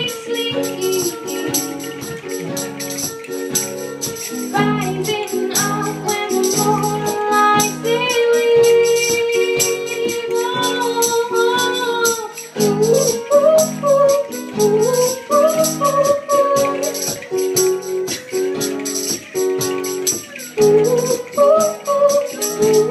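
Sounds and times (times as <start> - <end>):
acoustic guitar strumming: 0.0 - 22.9
hand percussion rattling: 0.0 - 22.9
woman singing: 0.0 - 22.9.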